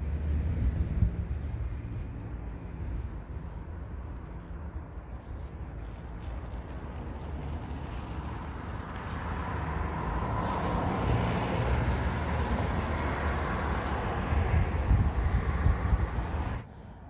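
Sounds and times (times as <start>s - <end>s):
traffic on busy road: 0.0s - 17.0s
wind rumbling on microphone: 0.0s - 17.0s.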